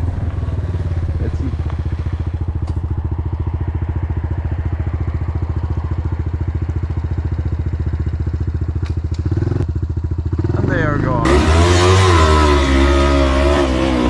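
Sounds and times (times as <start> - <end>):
motorcycle engine at low revs: 0.0 - 14.0.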